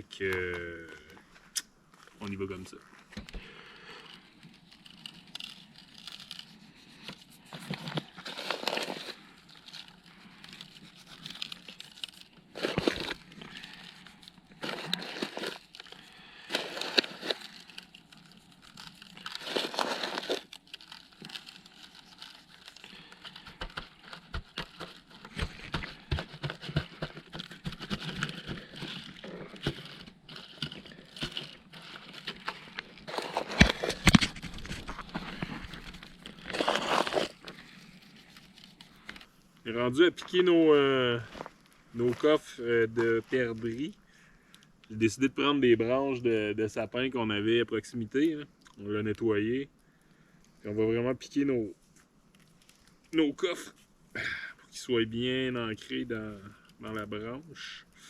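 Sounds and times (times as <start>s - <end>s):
small crackles and clicks: 0.2s - 40.3s, 48.0s - 50.7s, 51.8s - 53.9s, 55.3s - 58.0s
hands rustling and crinkling: 0.2s - 45.0s, 47.9s - 54.1s, 54.9s - 58.0s.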